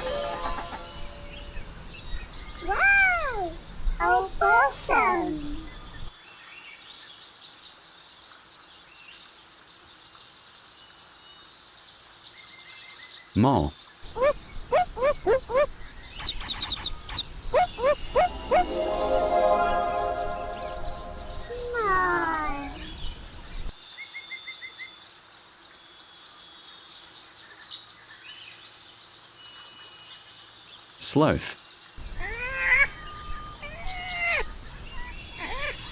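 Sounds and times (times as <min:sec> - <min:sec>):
outdoor background hiss: 0:00.0 - 0:35.9
small birds chirping: 0:00.6 - 0:35.9.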